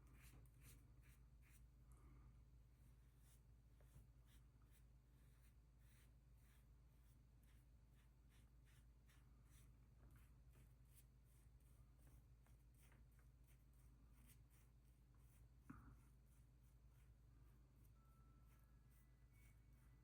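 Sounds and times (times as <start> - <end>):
scratchy strokes on antler: 3.0 - 19.8.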